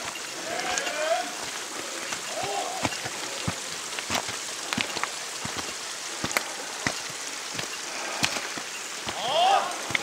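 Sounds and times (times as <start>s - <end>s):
footsteps crunching on stones: 0.0s - 10.0s
steady hiss: 0.0s - 10.0s.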